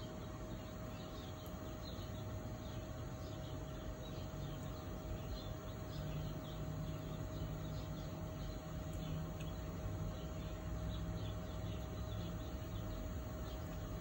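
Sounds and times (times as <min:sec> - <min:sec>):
high chirps of small animals: 0:00.0 - 0:14.0
steady hum: 0:00.0 - 0:14.0.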